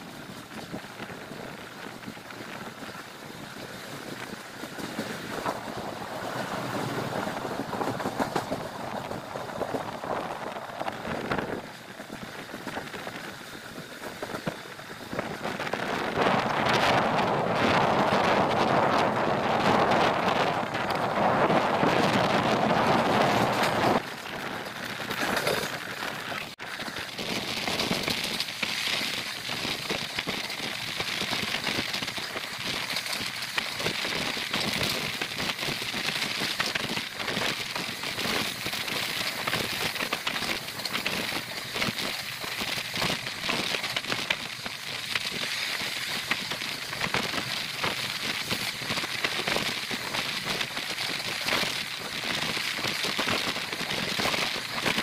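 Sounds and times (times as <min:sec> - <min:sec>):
train wheels on rails: 0:00.0 - 0:55.0
wind on microphone: 0:00.0 - 0:55.0.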